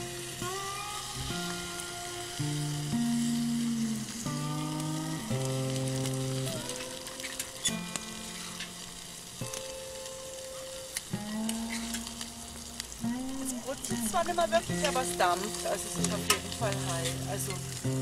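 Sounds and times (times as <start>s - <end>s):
food sizzling: 0.0s - 18.0s
instrumental music with held chords: 0.0s - 18.0s
wood fire crackling: 0.0s - 18.0s.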